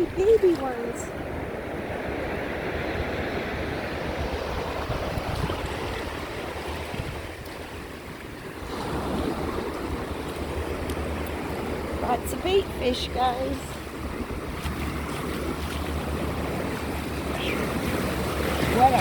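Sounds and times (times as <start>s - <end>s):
surf waves washing on sand: 0.0s - 19.0s
wind rumbling on microphone: 0.0s - 19.0s.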